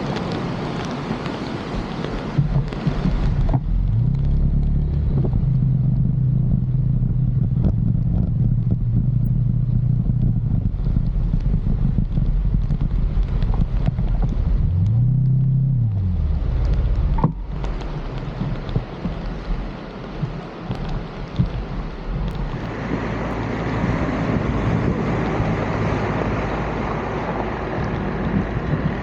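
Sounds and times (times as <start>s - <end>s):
engine droning: 0.0s - 20.6s, 21.2s - 29.0s.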